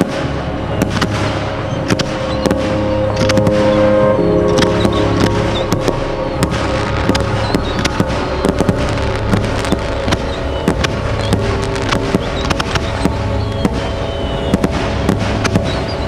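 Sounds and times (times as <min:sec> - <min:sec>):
background music with held notes: 0:00.0 - 0:16.0
fireworks popping and banging: 0:00.0 - 0:16.0.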